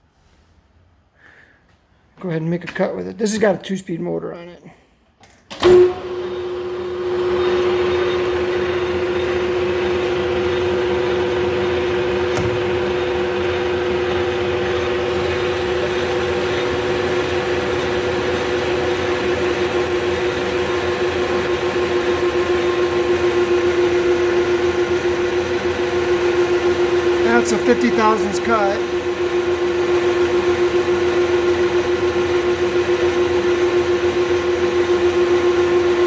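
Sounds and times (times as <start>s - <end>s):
lathe running with steady whine: 6.0s - 36.0s.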